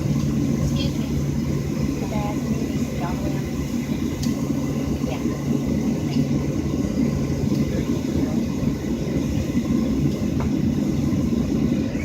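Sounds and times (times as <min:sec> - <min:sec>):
aircraft cabin drone: 0:00.0 - 0:12.0
constant hum: 0:00.0 - 0:12.0.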